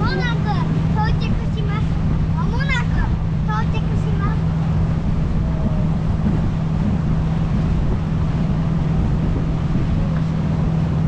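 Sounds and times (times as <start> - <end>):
boat engine droning: 0.0 - 11.0
wind and water rushing: 0.0 - 11.0.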